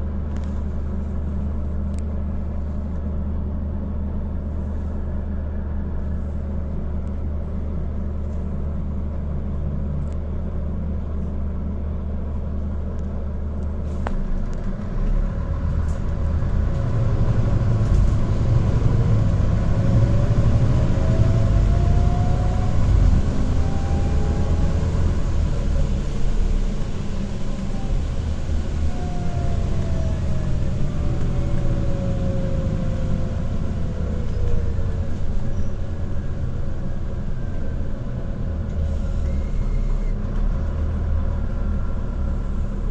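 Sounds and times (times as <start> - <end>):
bus engine: 0.0 - 42.9.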